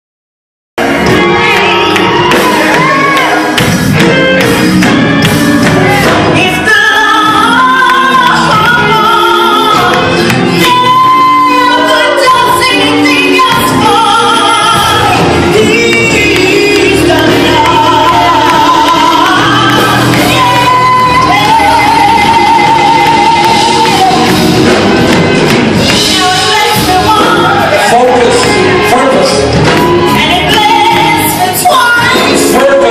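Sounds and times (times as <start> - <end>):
instrumental accompaniment: 0.8 - 32.9
voices singing worship song: 0.8 - 32.9.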